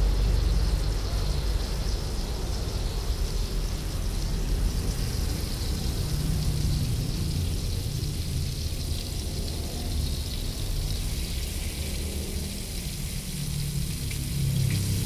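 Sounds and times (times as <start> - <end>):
gas burner rumble and hiss: 0.0 - 15.0
fat sizzling in pan: 2.6 - 15.0.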